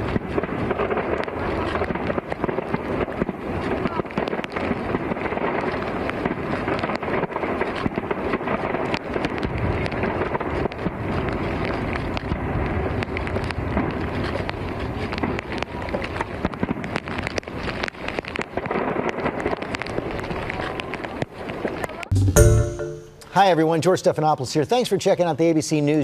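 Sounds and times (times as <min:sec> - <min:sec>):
fireworks popping and crackling: 0:00.0 - 0:22.3.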